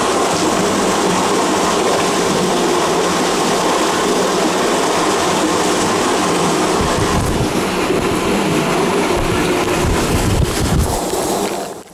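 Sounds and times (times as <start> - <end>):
water pouring into river: 0.0 - 11.9.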